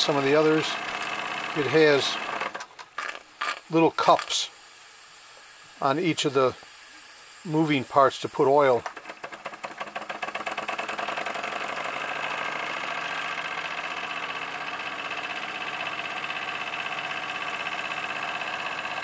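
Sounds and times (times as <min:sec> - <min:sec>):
toy steam engine chuffing: 0:00.0 - 0:19.0.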